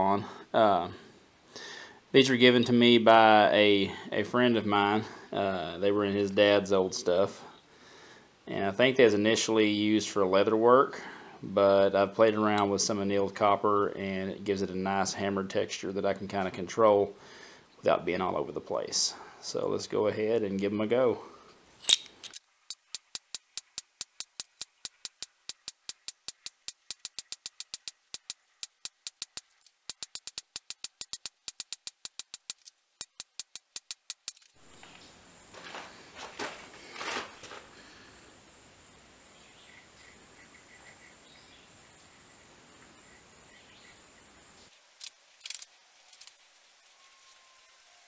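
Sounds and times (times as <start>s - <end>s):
low hiss: 0.0s - 48.0s.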